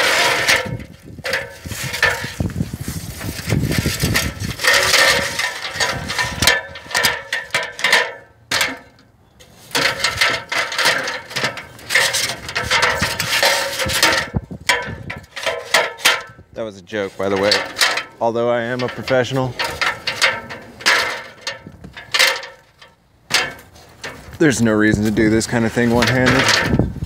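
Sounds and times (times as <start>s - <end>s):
clanks on metal ladder: 0.0s - 2.5s, 3.2s - 16.4s, 17.1s - 26.9s.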